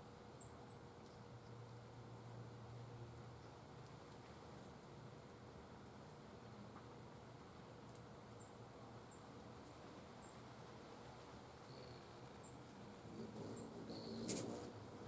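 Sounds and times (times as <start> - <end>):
hummingbird wings humming: 0.0 - 15.0.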